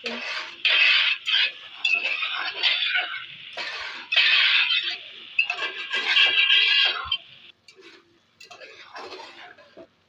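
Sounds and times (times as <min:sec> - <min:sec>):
spoon scraping a pot: 0:00.0 - 0:09.9.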